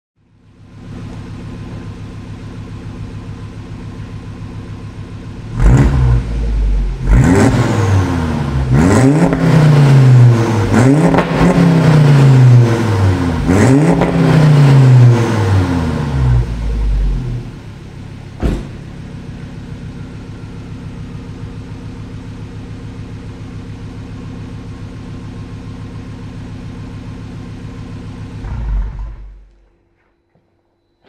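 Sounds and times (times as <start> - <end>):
car engine revving and idling: 0.4 - 29.7.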